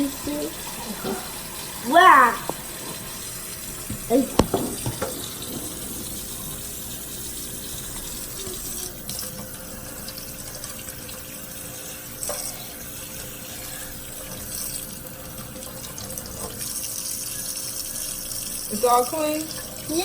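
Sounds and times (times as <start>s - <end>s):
tap water running into sink: 0.0s - 20.0s.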